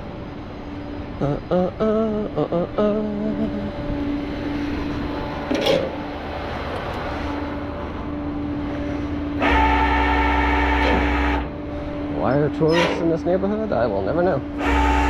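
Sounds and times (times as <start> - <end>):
deep mechanical drone with whine: 0.0 - 15.0
vehicle engine idling: 0.0 - 15.0.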